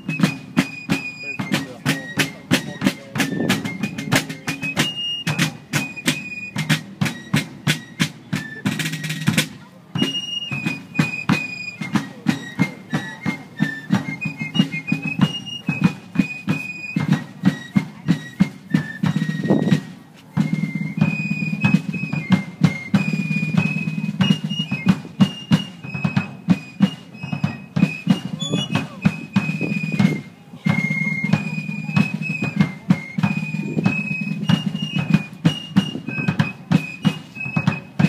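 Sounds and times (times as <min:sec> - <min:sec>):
field drums beating: 0:00.0 - 0:38.0
fifes playing a march: 0:00.0 - 0:38.0.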